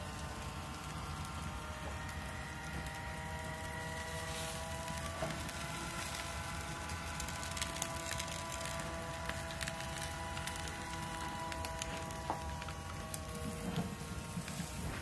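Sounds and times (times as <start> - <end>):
grill rumbling: 0.0 - 15.0.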